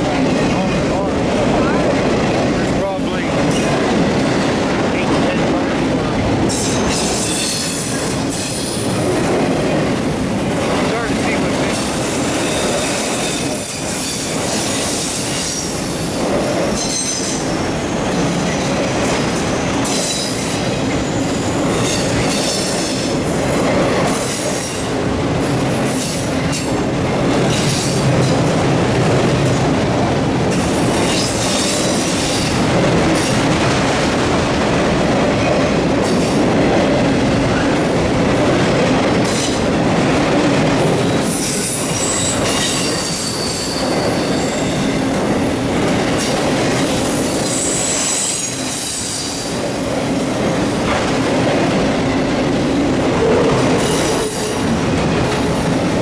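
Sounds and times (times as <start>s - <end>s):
freight train rumble and clatter: 0.0s - 56.0s.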